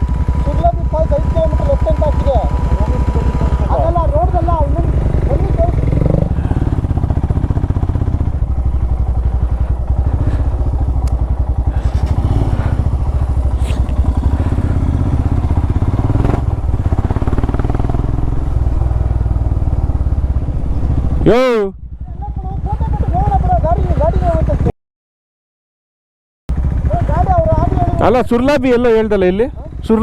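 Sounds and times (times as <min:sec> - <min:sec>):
motorcycle engine running: 0:00.0 - 0:24.7, 0:26.5 - 0:30.0.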